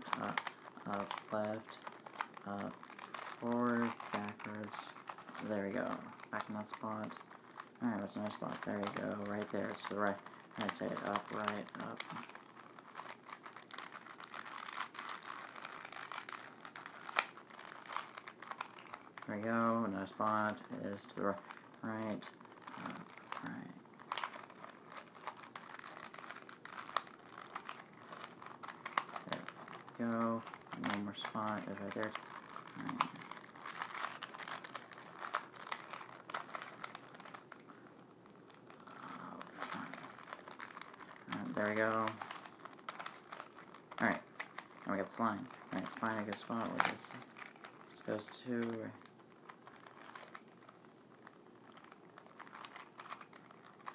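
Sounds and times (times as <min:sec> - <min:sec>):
plastic puzzle cube clicking: 0:00.0 - 0:37.7, 0:38.5 - 0:53.9.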